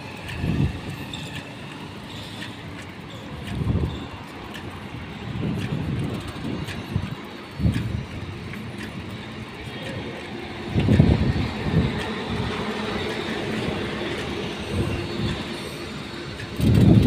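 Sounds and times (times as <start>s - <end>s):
road and traffic rumble: 0.0s - 17.0s.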